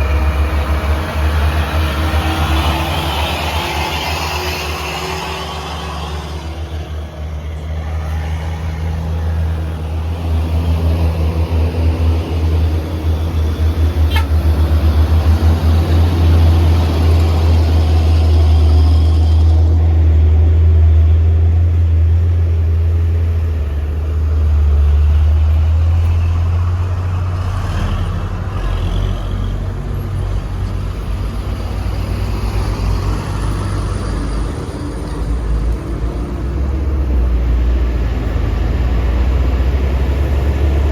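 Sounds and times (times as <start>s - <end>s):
truck diesel engine under load: 0.0s - 40.9s.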